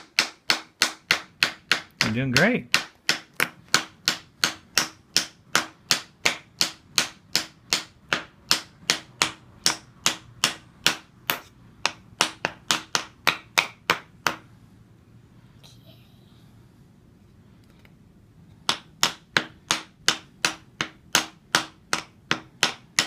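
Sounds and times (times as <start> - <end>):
hammer driving nail into wood: 0.0 - 14.4, 18.6 - 23.0.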